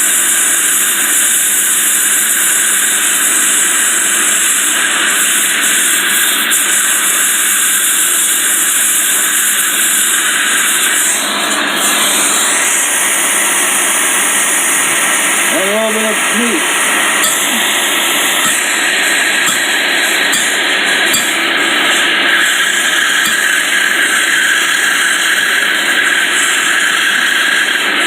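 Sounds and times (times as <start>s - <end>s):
gas torch flame hissing: 0.0s - 28.0s.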